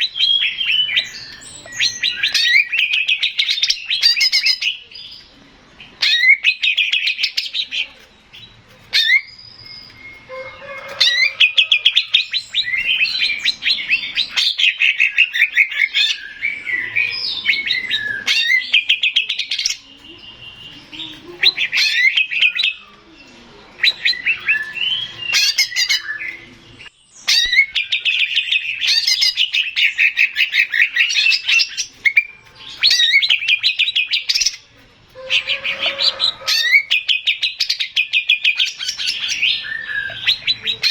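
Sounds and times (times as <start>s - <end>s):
bird trilling song: 0.0s - 40.9s.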